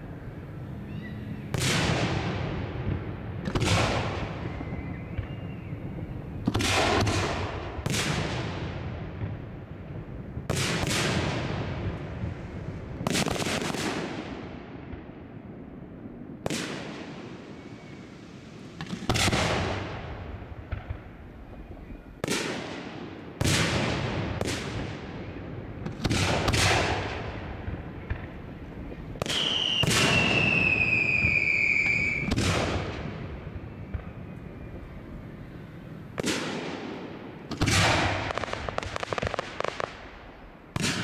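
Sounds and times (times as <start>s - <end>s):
whistling firework: 0.0s - 15.0s, 16.0s - 41.0s.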